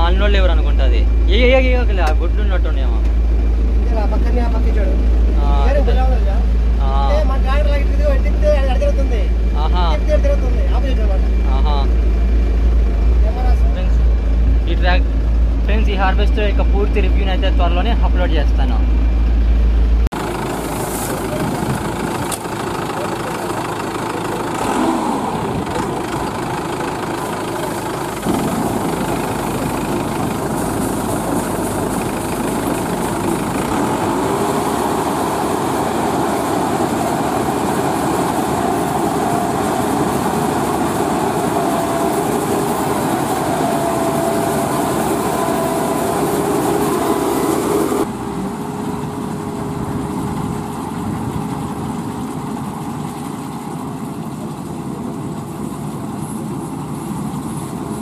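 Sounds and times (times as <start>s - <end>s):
combine harvester running: 0.0s - 58.0s
faint machinery whine: 0.0s - 58.0s.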